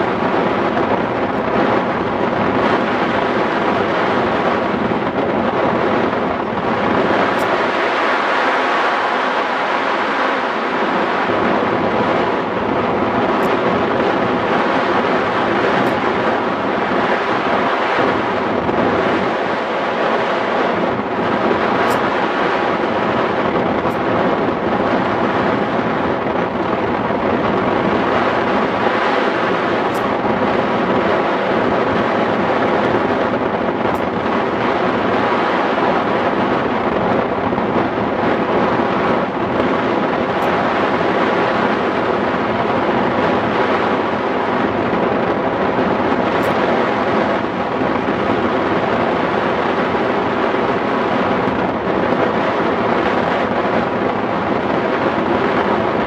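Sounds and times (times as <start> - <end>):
wind rushing across microphone: 0.0 - 56.0.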